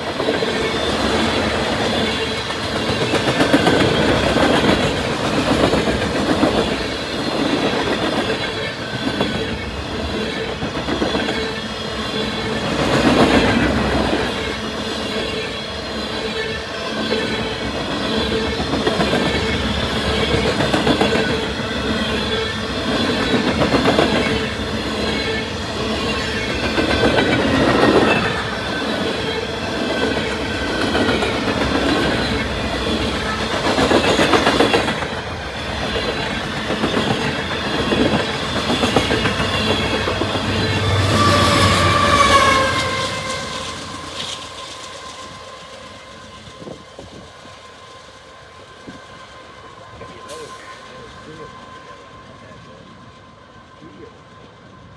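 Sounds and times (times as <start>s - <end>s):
train wheels clacking over rail joints: 0.0s - 47.8s.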